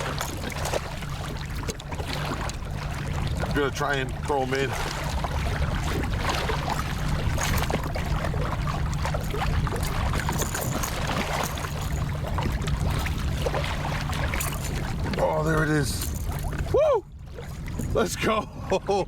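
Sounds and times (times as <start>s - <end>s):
gear knocking on hull: 0.0s - 16.7s
steady low hum: 0.0s - 19.0s
water splashing around kayak: 0.0s - 19.0s.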